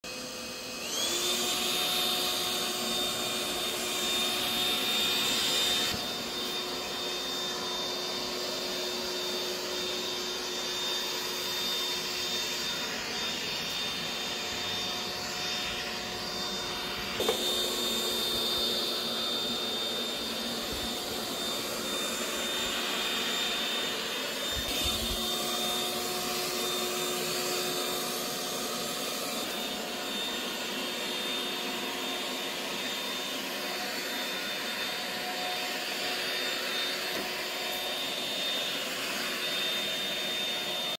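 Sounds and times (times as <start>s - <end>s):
robot vacuum cleaner running: 0.1s - 40.9s.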